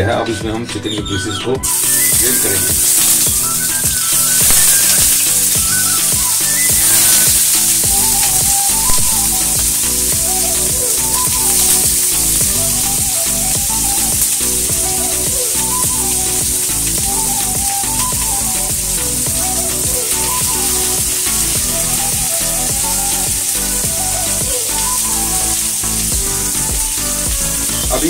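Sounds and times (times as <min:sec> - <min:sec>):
background music: 0:00.0 - 0:28.0
chicken sizzling in oil: 0:01.6 - 0:28.0.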